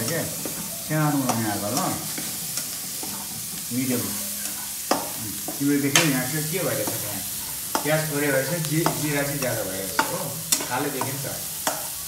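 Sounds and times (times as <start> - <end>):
onion sizzling in oil: 0.0 - 12.0
spatula clacking against pan: 0.0 - 12.0
spatula stirring in a wok: 0.0 - 12.0.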